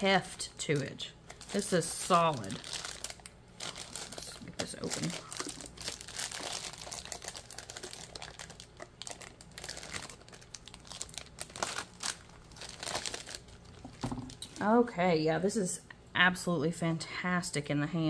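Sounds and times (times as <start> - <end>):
plastic wrapping crinkling: 0.0 - 14.7.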